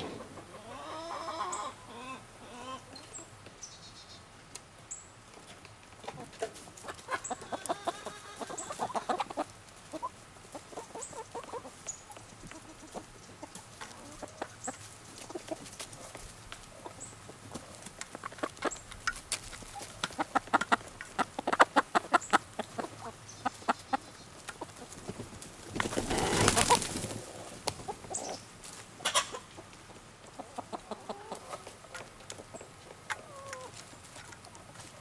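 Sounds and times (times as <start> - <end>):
hens clucking: 0.0 - 3.4, 5.3 - 35.0.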